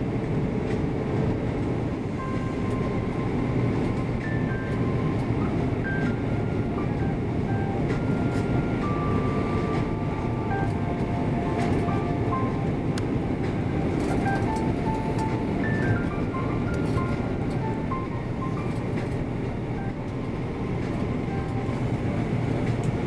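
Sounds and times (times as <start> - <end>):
aircraft cabin engine and airflow roar: 0.0 - 23.0.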